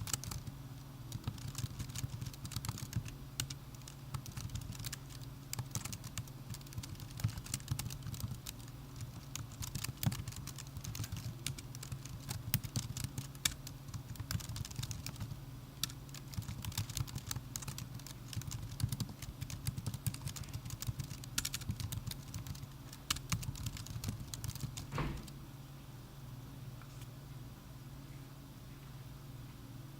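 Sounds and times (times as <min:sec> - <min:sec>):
laptop keyboard typing: 0:00.0 - 0:25.0
low steady hum: 0:00.0 - 0:29.9.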